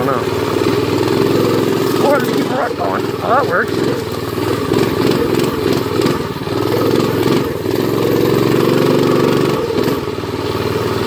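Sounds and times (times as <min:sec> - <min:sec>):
minibike engine revving: 0:00.0 - 0:11.0.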